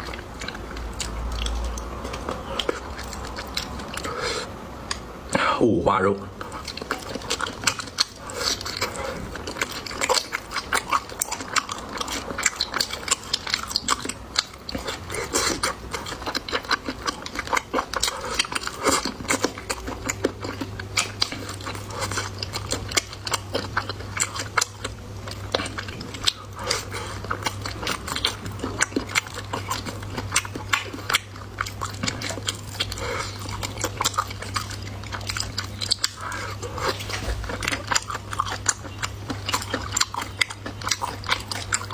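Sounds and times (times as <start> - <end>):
person chewing close up: 0.0 - 5.1, 6.3 - 41.9
low steady hum: 0.0 - 41.9.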